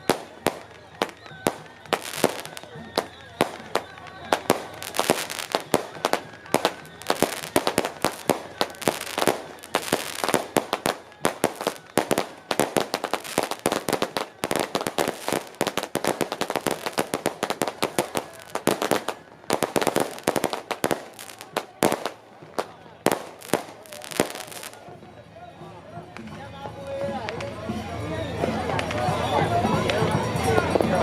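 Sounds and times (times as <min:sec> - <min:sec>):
firecrackers banging: 0:00.0 - 0:25.1, 0:28.3 - 0:31.0.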